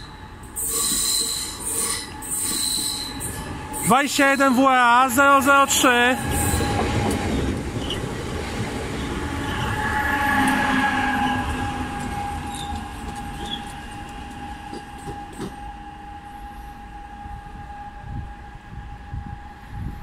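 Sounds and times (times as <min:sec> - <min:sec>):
electric train passing: 0:00.0 - 0:20.0.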